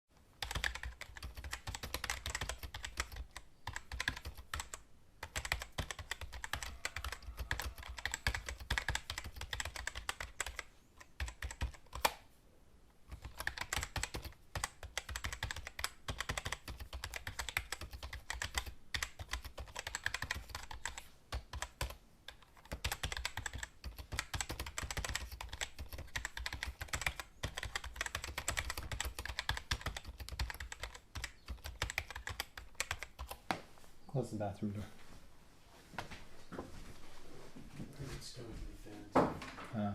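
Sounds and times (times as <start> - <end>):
computer keyboard typing: 0.4 - 12.2, 13.1 - 33.4.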